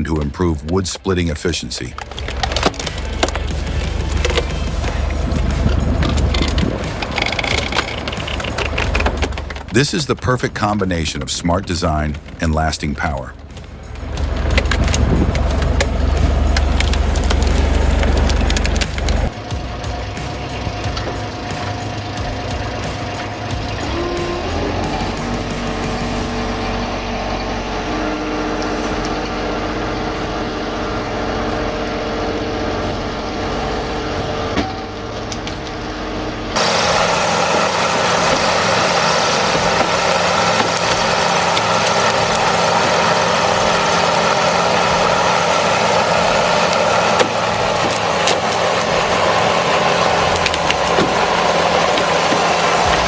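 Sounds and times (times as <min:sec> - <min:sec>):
harsh grinding noise: 0:00.0 - 0:53.0
heavy forestry machinery running: 0:00.0 - 0:53.0.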